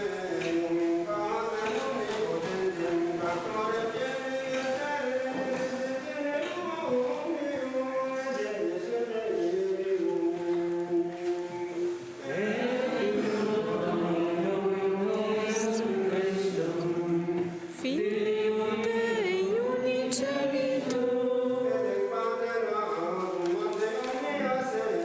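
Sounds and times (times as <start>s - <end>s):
voices singing a chant: 0.0s - 25.0s.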